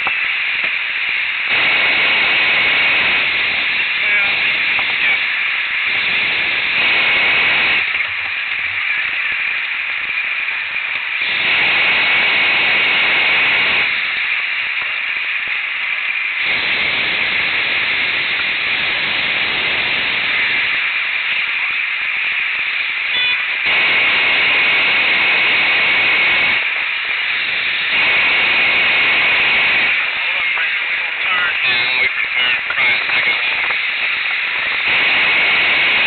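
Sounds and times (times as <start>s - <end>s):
propane burner blasts: 0.0s - 36.0s.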